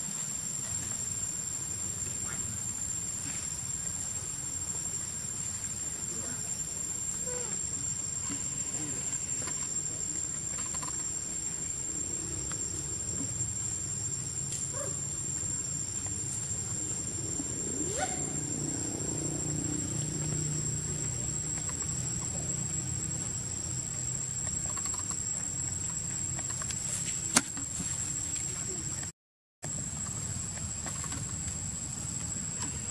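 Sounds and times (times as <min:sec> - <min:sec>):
high-pitched insect drone: 0:00.1 - 0:29.0.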